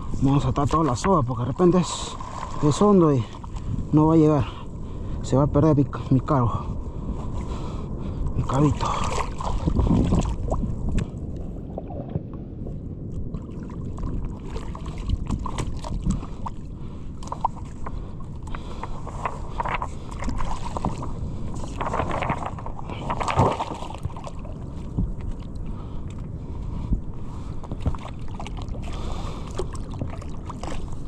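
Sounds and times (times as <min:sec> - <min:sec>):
sea water sloshing and splashing: 0:00.0 - 0:05.2, 0:07.0 - 0:31.0
wind rumbling on microphone: 0:00.0 - 0:31.0.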